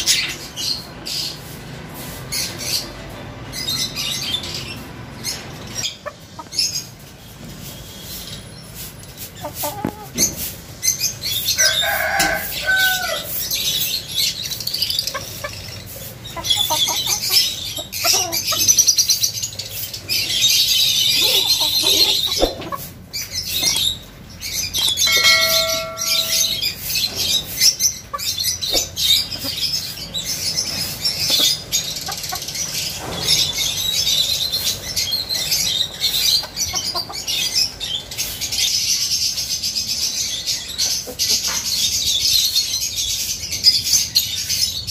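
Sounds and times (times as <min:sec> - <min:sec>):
chickens clucking: 0:00.0 - 0:44.6
small birds chirping: 0:00.0 - 0:44.9.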